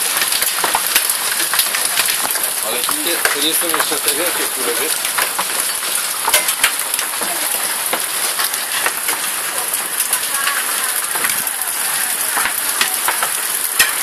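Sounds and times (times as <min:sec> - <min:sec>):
hailstones ticking: 0:00.0 - 0:14.0
heavy rain hiss: 0:00.0 - 0:14.0.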